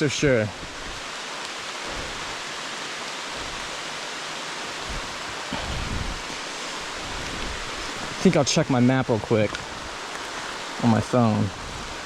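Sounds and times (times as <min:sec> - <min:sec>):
heavy rain falling: 0:00.0 - 0:12.0
low rumbles: 0:00.0 - 0:12.0.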